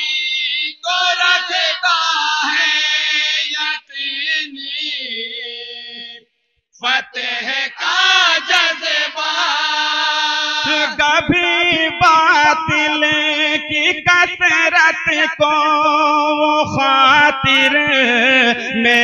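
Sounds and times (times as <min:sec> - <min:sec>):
men chanting in chorus: 0:00.0 - 0:06.2, 0:06.8 - 0:19.0.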